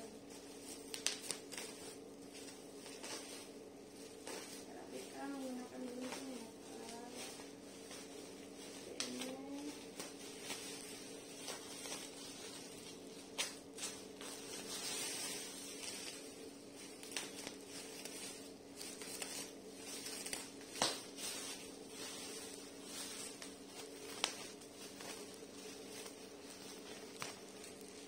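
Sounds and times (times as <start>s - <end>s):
faint steady hum: 0.0s - 28.0s
plastic wrapping crinkling: 0.0s - 28.0s.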